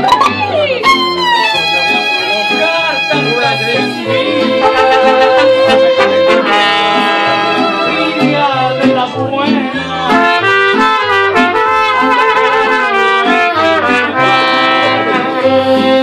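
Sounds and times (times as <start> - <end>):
mariachi band playing: 0.0 - 16.0.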